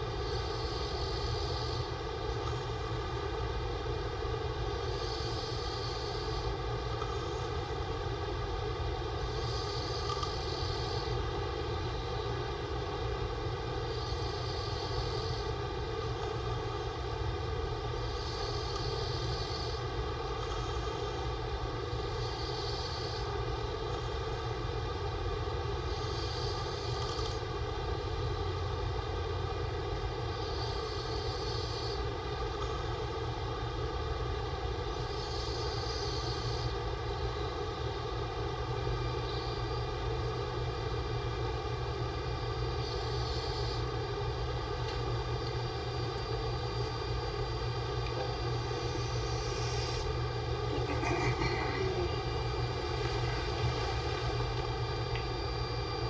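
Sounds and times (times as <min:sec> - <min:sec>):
steady background drone: 0:00.0 - 0:56.0.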